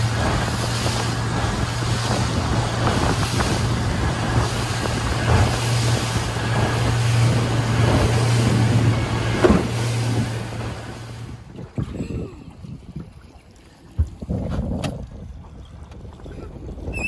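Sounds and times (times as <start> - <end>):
boat engine drone: 0.0 - 17.0
water splashing against hull: 0.0 - 17.0
wind buffeting microphone: 0.0 - 17.0.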